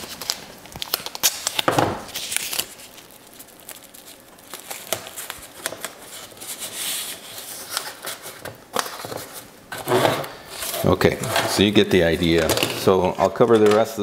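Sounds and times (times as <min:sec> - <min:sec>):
tape and plastic wrap crinkling: 0:00.0 - 0:14.0.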